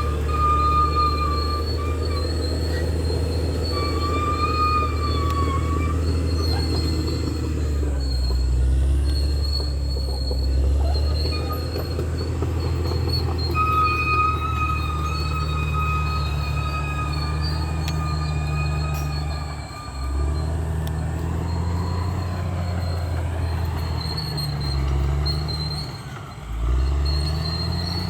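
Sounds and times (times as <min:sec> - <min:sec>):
bulldozer diesel engine rumbling: 0:00.0 - 0:28.0
steel tracks squealing: 0:00.0 - 0:28.0.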